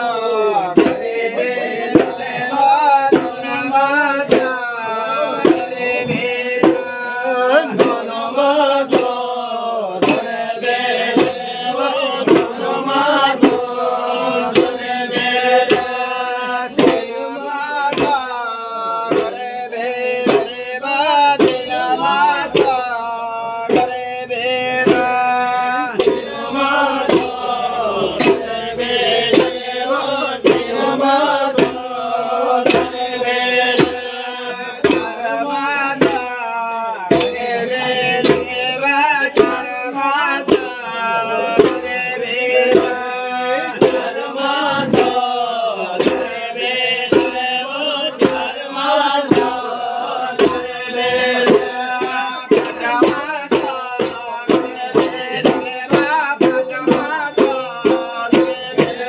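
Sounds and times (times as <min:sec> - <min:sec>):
hand drums beating: 0:00.0 - 0:59.0
voices singing folk tune: 0:00.0 - 0:59.0
barrel drums beating: 0:00.8 - 0:08.2, 0:16.7 - 0:59.0.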